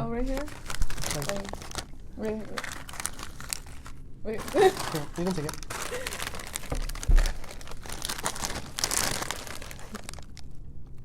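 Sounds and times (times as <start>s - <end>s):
plastic chip bag crinkling: 0.0s - 11.0s.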